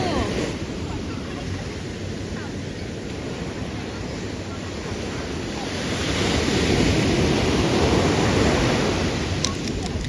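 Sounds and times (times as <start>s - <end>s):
surf breaking on a beach: 0.0s - 10.0s.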